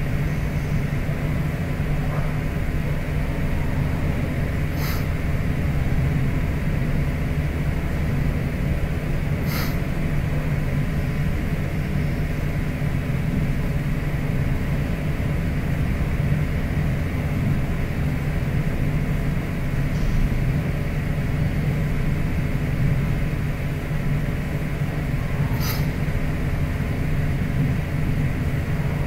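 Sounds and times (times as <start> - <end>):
low hum with hiss: 0.0 - 29.0.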